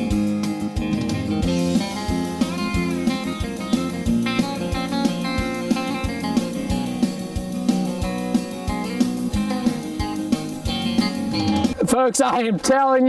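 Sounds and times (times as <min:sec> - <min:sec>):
guitar music with steady beat: 0:00.0 - 0:11.8.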